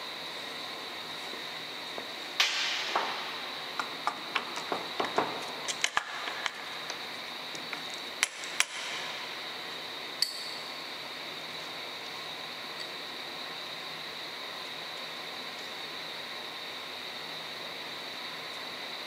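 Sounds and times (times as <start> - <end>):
air conditioner whine: 0.0 - 19.0.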